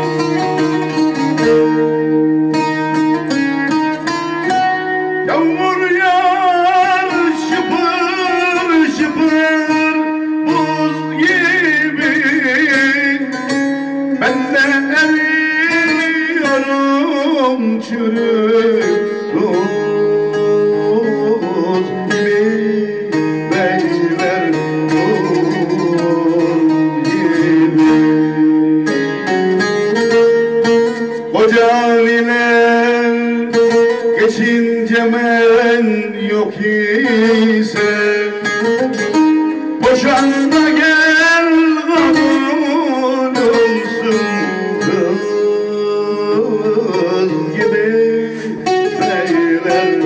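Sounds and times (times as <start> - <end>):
long-necked lute melody: 0.0 - 50.0.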